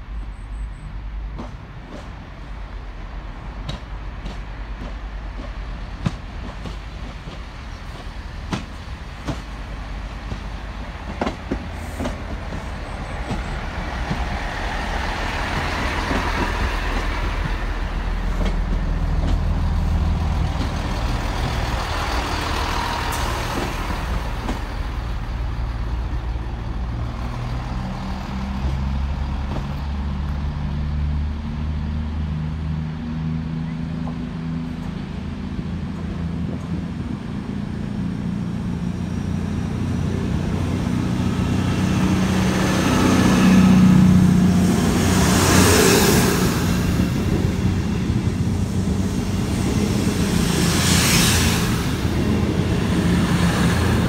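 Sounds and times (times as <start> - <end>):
train wheels rushing on rails: 0.8 - 54.0
diesel engines throbbing: 1.0 - 31.4, 32.1 - 54.0.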